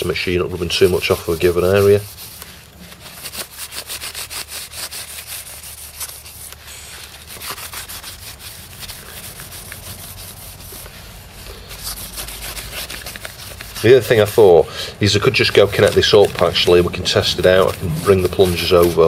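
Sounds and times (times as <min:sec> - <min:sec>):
pad rubbing circuit board: 0:00.7 - 0:14.6, 0:15.2 - 0:19.0.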